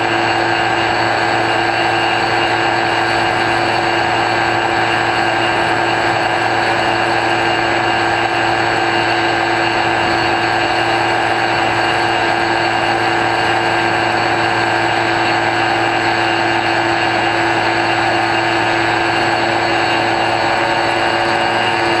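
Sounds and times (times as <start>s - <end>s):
electric motor propeller whine: 0.0s - 22.0s.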